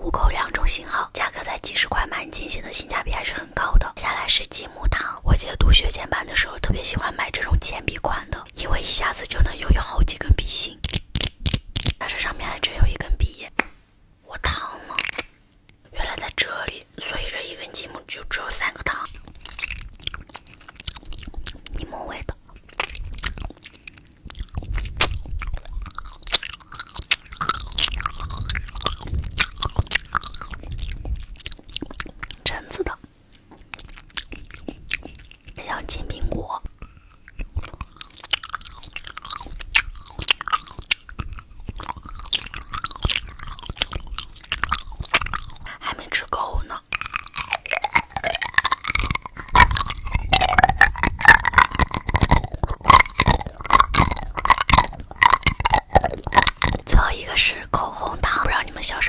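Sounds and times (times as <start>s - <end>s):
crunching candy in the mouth: 0.0s - 13.7s, 14.4s - 15.4s, 16.0s - 59.0s
wet chewing and sucking: 0.0s - 13.8s, 14.4s - 59.0s.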